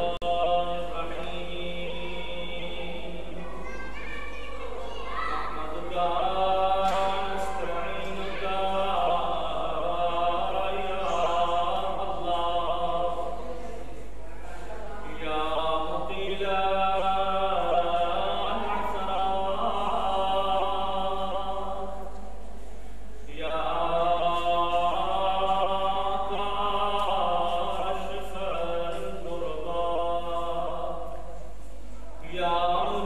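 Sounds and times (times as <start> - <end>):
man chanting: 0.0 - 3.4, 5.5 - 13.7, 14.8 - 22.1, 23.2 - 31.4, 32.1 - 33.0.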